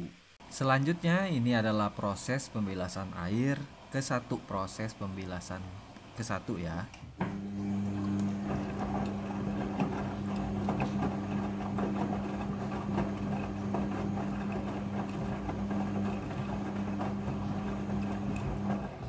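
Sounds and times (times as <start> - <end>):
washing machine motor humming: 0.0 - 19.0.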